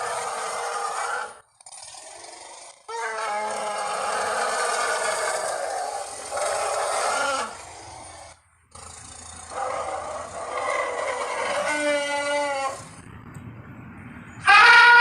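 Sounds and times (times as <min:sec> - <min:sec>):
mammoth roaring: 0:00.0 - 0:13.1, 0:14.4 - 0:15.0.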